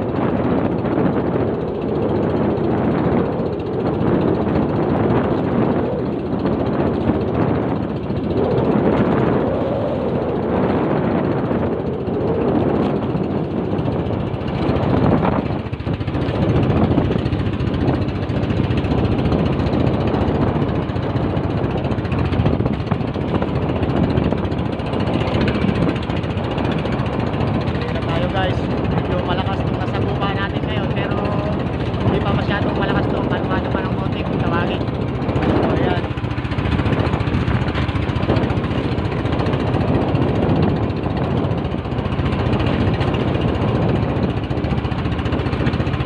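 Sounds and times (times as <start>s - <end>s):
wind and waves rumbling: 0.0s - 46.0s.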